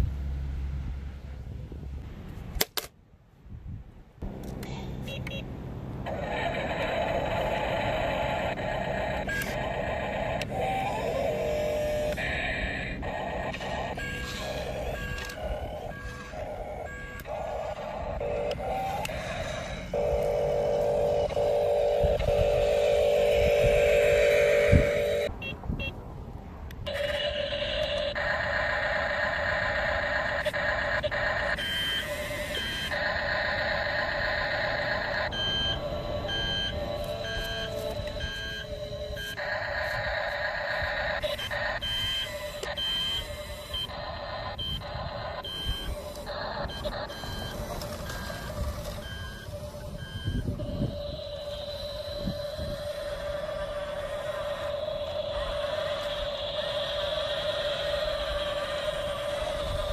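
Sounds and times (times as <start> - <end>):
electric motors whining: 6.0 - 25.3, 26.9 - 59.9
reversing beeper: 6.0 - 25.9, 26.9 - 59.9.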